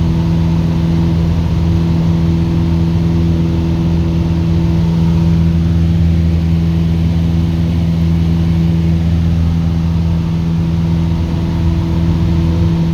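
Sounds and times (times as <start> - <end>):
light aircraft piston engine: 0.0 - 12.9.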